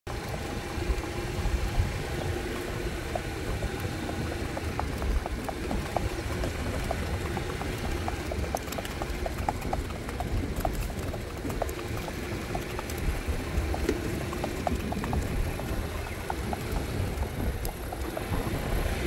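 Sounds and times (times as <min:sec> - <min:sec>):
horse hooves clicking on sand: 0:00.1 - 0:19.0
wind on microphone: 0:00.1 - 0:19.0.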